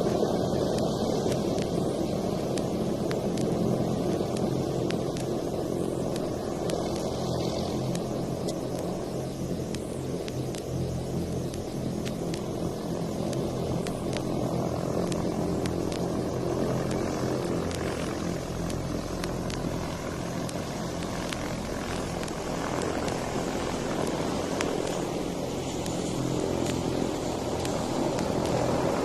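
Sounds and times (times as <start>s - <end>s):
faint record clicks: 0.0s - 29.0s
low hum: 0.0s - 29.0s.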